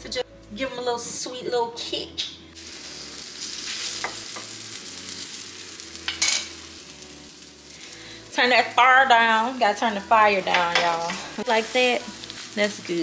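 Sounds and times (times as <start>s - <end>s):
plantain sizzling in frying pan: 2.6s - 13.0s.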